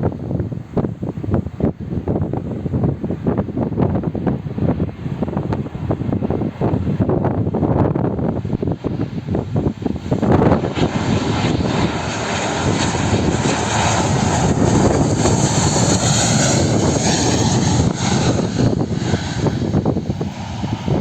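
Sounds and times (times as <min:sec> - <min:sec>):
jet engines whining on landing: 0:00.0 - 0:21.0.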